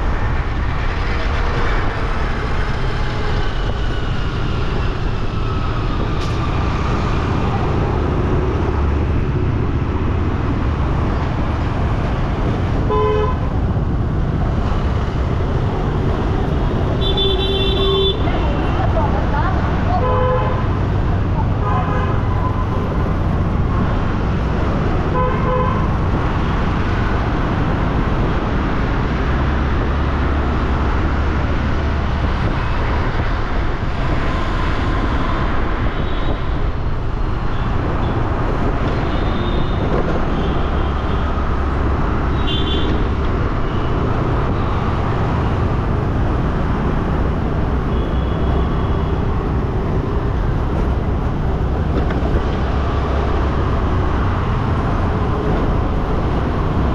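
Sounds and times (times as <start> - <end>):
engine and road rumble: 0.0 - 56.9.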